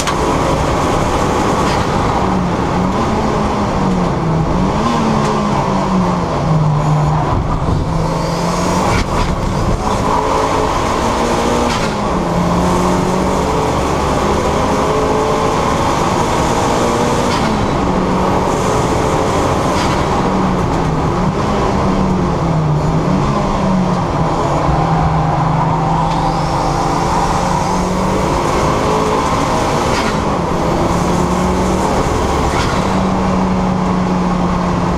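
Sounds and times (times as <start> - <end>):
car engine running hard: 0.0 - 34.9.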